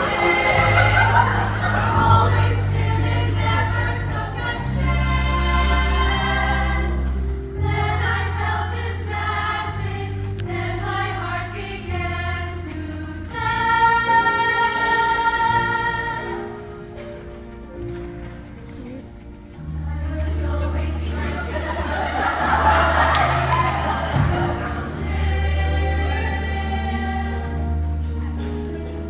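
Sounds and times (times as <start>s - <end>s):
choir singing show tunes: 0.0s - 17.1s, 19.7s - 28.6s
low held accompaniment notes: 0.0s - 29.0s.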